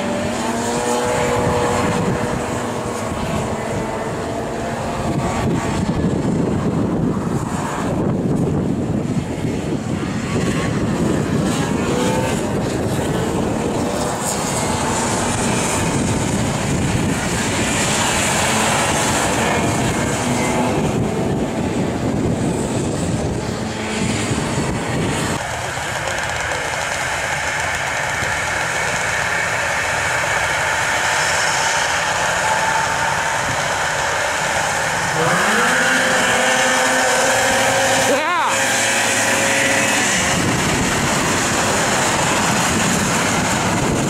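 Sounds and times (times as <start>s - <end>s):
snowmobile engines idling: 0.0s - 44.0s
snowmobile engines revving: 0.0s - 44.0s
snowmobiles racing past: 0.0s - 44.0s.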